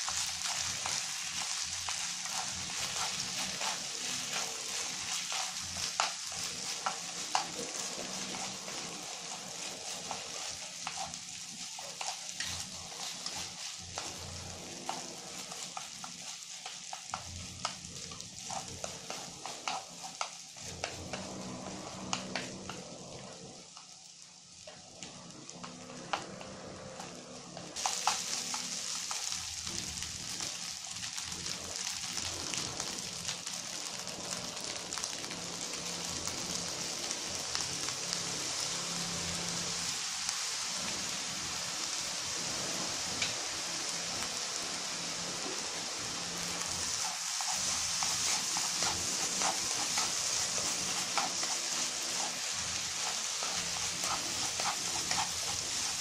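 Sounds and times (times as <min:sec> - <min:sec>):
rice sizzling in a frying pan: 0:00.0 - 0:56.0.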